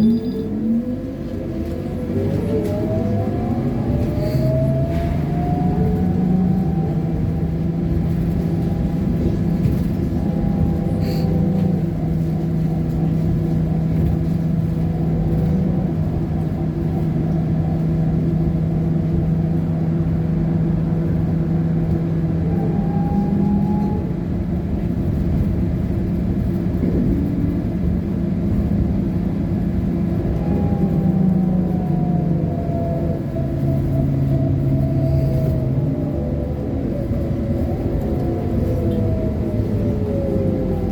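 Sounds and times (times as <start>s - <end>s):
road rumble: 0.0s - 40.9s.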